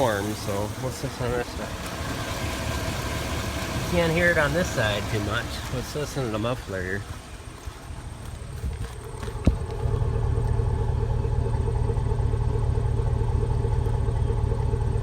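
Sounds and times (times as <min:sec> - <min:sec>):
car exhaust idling: 0:00.0 - 0:15.0.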